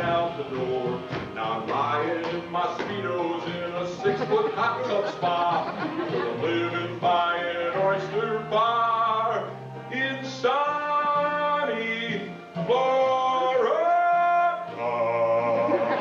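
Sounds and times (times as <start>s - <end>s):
instrumental accompaniment: 0.0s - 16.0s
man singing: 0.0s - 16.0s.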